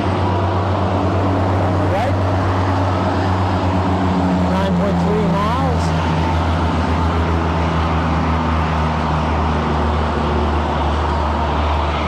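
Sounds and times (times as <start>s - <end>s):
freeway traffic passing: 0.0s - 12.0s.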